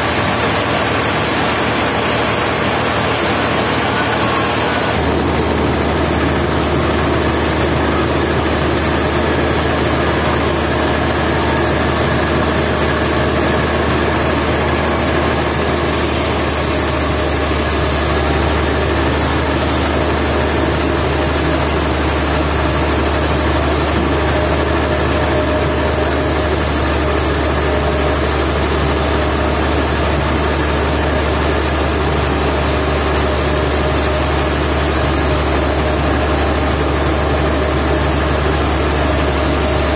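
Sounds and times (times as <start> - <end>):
sawmill machinery engine drone: 0.0 - 39.9.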